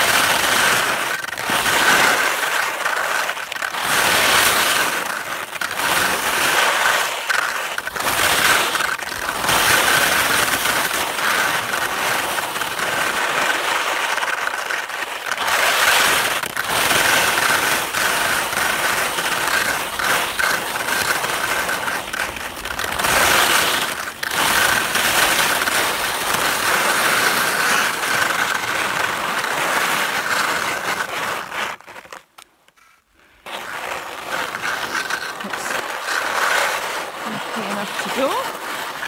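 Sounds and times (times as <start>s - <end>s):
skis scraping over snow: 0.0s - 39.0s.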